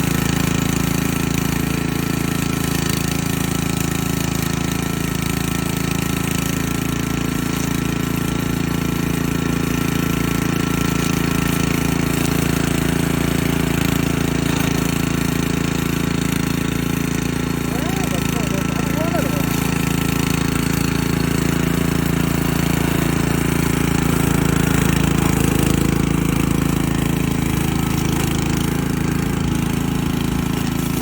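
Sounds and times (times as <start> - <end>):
lawn mower petrol engine running: 0.0 - 31.0.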